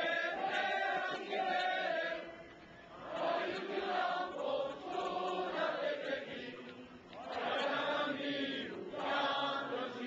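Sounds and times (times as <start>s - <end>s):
choir singing: 0.0s - 10.0s.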